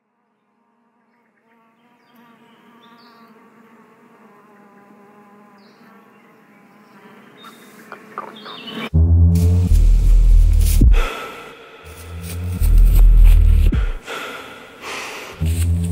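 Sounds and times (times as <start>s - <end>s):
insect buzzing: 0.0s - 15.9s.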